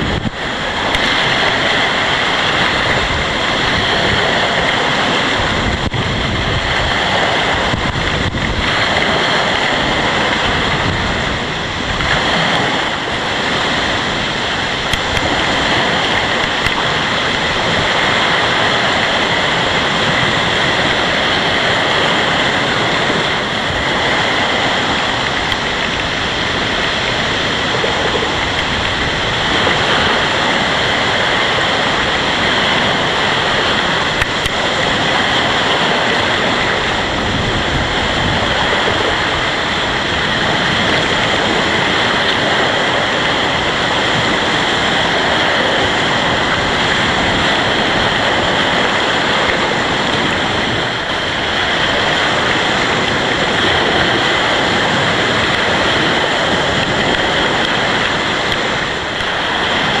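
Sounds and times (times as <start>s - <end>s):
storm wind: 0.0s - 60.0s
waves breaking on shore: 0.0s - 60.0s.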